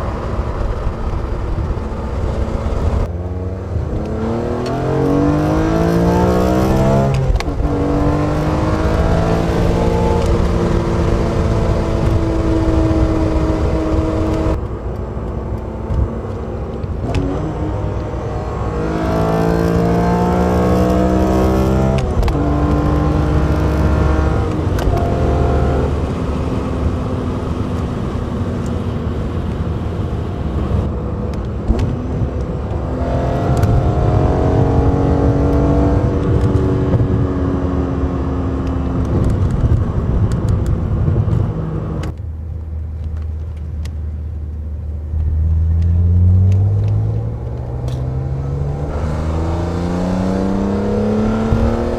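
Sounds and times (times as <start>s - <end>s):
car engine accelerating: 0.0s - 42.2s, 44.7s - 51.9s.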